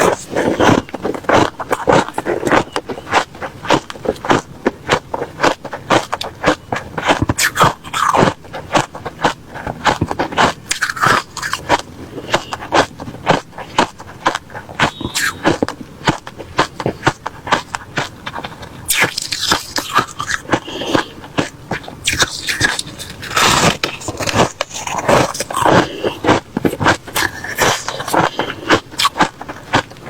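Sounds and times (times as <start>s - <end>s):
person crunching ice: 0.0s - 30.0s.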